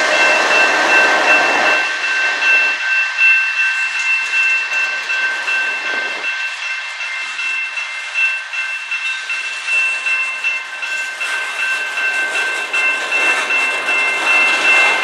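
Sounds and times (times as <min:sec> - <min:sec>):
crossing bell ringing: 0:00.0 - 0:15.0
locomotive rumble: 0:00.0 - 0:15.0.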